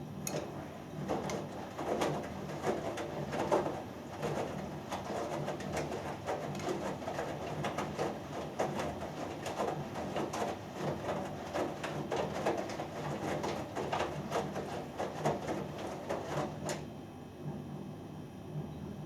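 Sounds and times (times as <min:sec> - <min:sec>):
washing machine drum swishing: 0:00.2 - 0:17.0.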